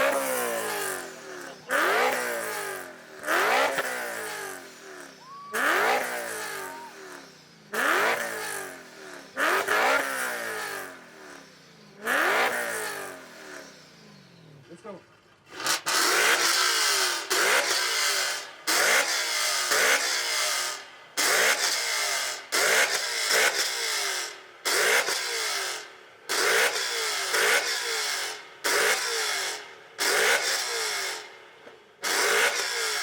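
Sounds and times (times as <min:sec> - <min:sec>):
car engine revving: 0:00.0 - 0:14.3, 0:15.5 - 0:31.3.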